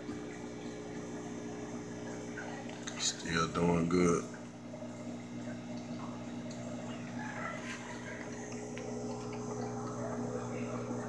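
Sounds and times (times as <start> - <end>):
aquarium equipment humming: 0.0 - 11.0
water bubbling and trickling: 0.0 - 11.0.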